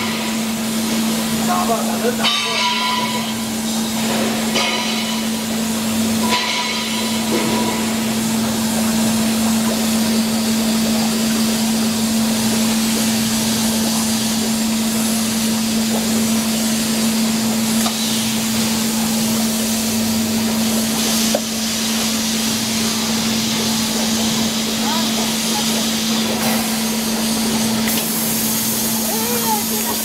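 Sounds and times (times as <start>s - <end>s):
production machinery humming: 0.0s - 30.0s.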